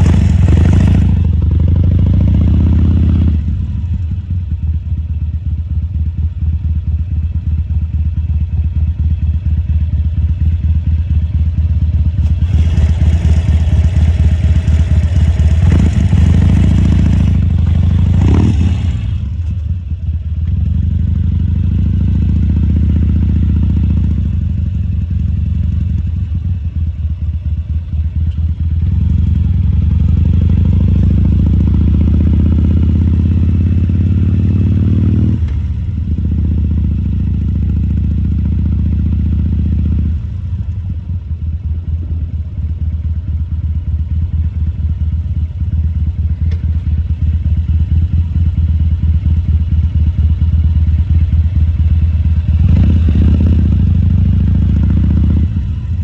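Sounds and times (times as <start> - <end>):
motorcycle engine revving: 0.0 - 5.6, 7.7 - 56.0.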